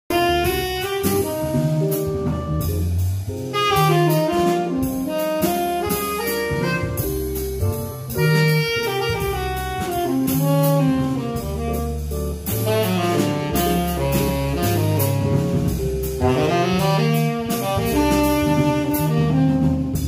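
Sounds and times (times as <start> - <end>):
jazz band playing: 0.1 - 20.0
saxophone melody: 0.1 - 20.0.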